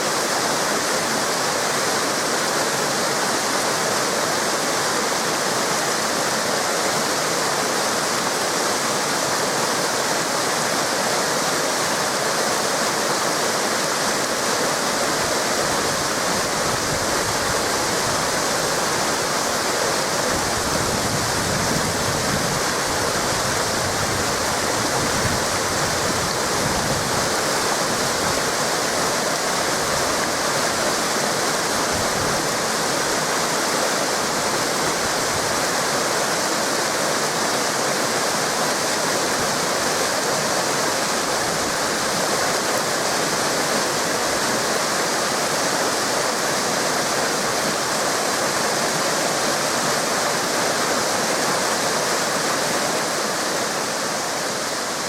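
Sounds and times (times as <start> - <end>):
waterfall and rushing river: 0.0 - 55.0.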